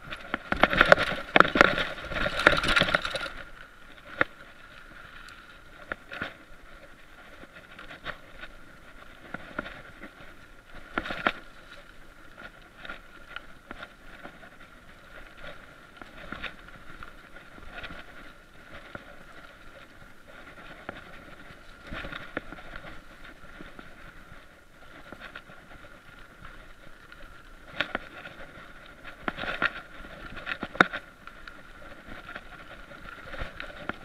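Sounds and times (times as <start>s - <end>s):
bike rattles and knocks: 0.0s - 4.4s, 7.2s - 34.0s
bike rolling on dirt trail: 0.0s - 34.0s.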